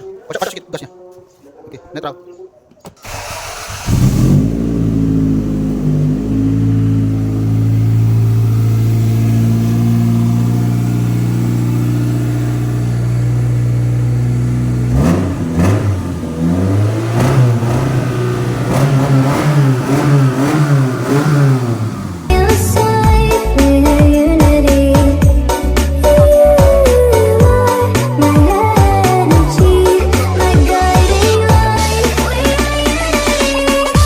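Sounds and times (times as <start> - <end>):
car engine idling and revving: 3.0 - 34.0.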